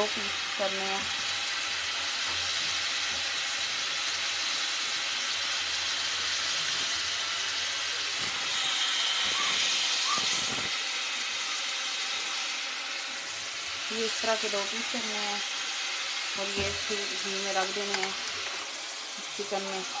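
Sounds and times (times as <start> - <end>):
chicken frying in oil sizzling: 0.0 - 20.0.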